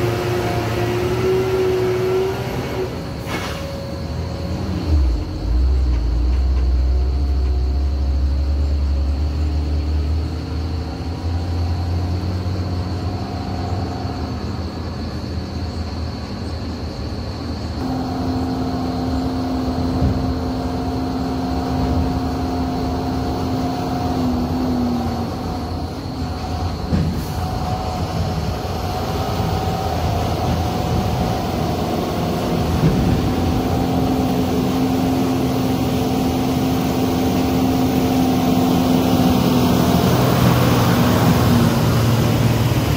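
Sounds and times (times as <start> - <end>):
diesel trucks labouring uphill: 0.0 - 42.9.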